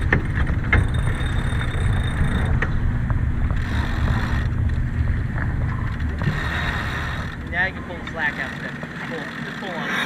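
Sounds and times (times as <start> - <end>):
water rushing along hull: 0.0 - 10.0.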